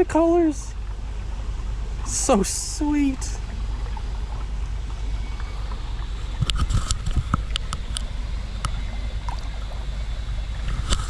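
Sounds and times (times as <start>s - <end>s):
wind buffeting microphone: 1.4s - 11.0s.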